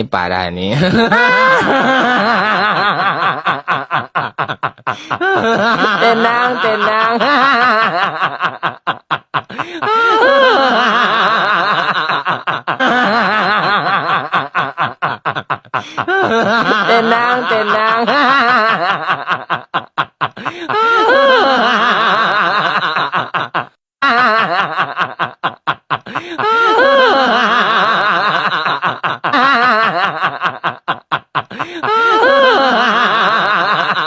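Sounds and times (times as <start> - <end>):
snickering laughter: 0.8 - 34.0.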